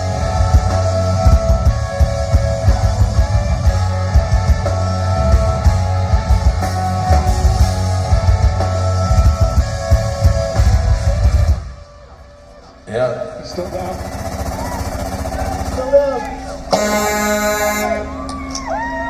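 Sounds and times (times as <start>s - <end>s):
distorted electric guitars: 0.0s - 18.9s
bass guitar: 0.0s - 19.0s
drums: 0.0s - 19.0s.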